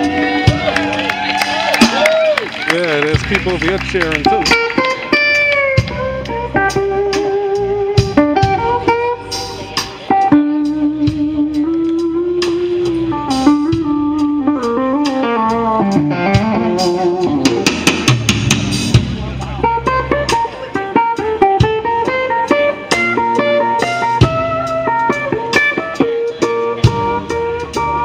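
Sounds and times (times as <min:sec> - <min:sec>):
guitar bending notes: 0:00.0 - 0:28.0
live blues band playing: 0:00.0 - 0:28.0.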